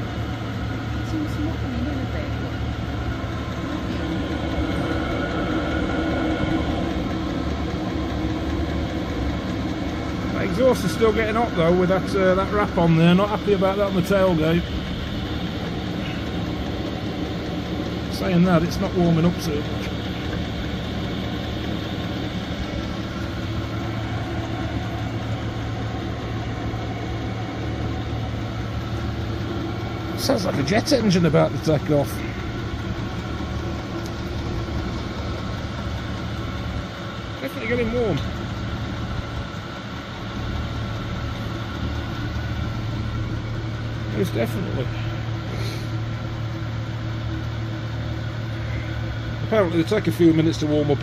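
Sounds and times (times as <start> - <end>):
air heater whirring roar: 0.0 - 51.0
low hum: 0.0 - 51.0
truck engine idling: 0.0 - 51.0.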